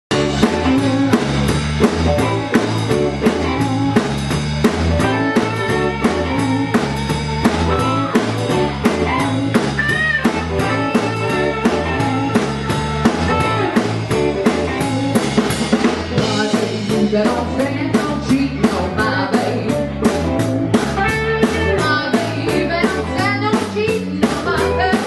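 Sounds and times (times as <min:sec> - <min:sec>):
bass line: 0:00.1 - 0:25.0
drum kit beat: 0:00.1 - 0:25.0
electric guitars: 0:00.1 - 0:25.0.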